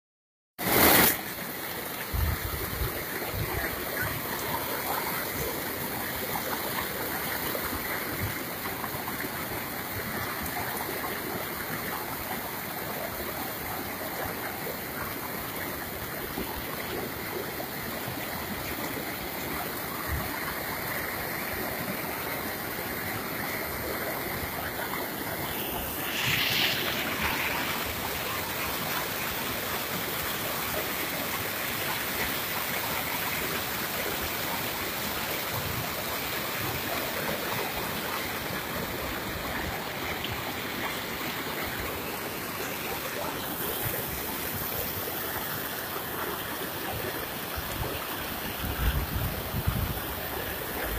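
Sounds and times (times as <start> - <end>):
floodwater rushing: 0.6 - 50.9.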